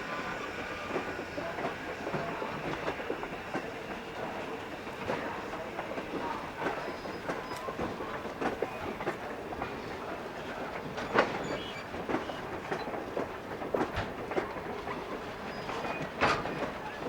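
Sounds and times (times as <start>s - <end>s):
train wheels rumbling on track: 0.0s - 17.0s
clanks over rail joints: 0.9s - 17.0s.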